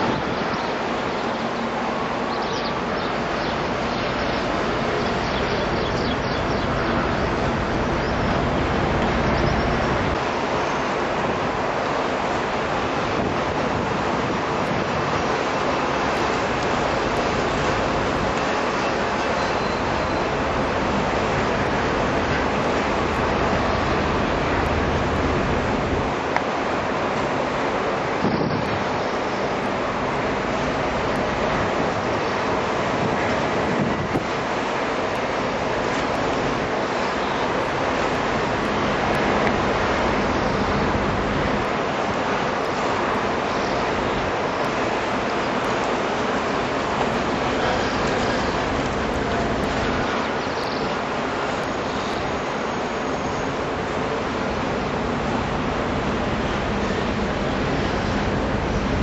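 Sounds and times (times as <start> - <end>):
distant traffic hum: 0.0 - 59.0
wind on microphone: 0.0 - 59.0.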